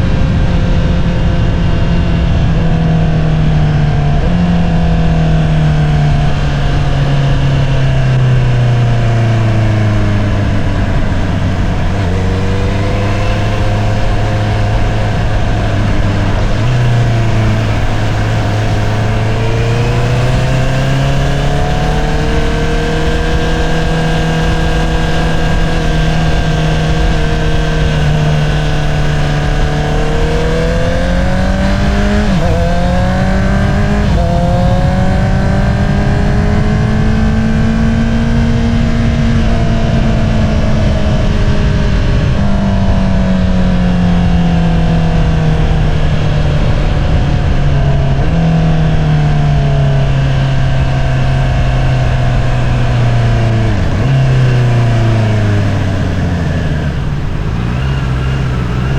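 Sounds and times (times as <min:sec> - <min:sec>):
motorcycle engine revving: 0:00.0 - 0:58.9
wind and road noise: 0:00.0 - 0:58.9.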